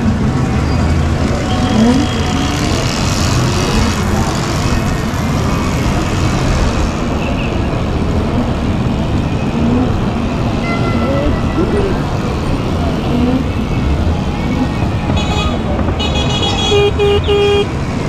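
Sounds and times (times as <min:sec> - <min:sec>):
road rumble: 0:00.0 - 0:18.0.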